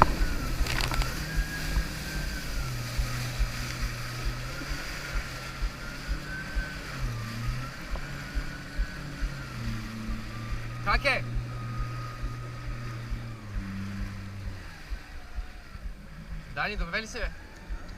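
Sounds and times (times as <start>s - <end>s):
dull low thumps: 0.0s - 17.9s
high whine rising and falling: 0.0s - 17.9s
jet ski engine running: 0.0s - 17.9s.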